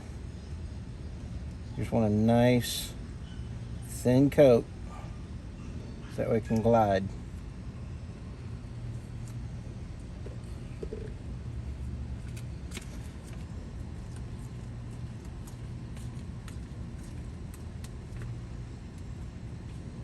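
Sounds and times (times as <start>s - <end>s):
vehicle traffic hum: 0.0s - 20.0s.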